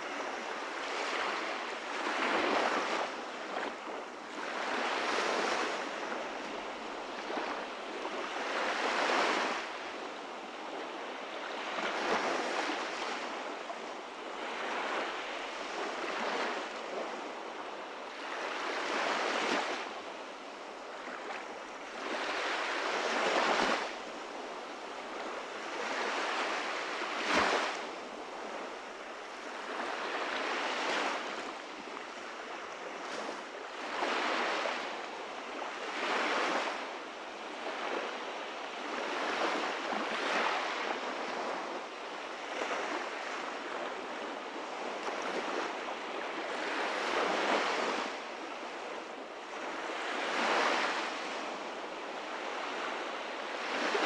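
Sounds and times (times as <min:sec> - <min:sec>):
small waves lapping on sand: 0:00.0 - 0:54.0.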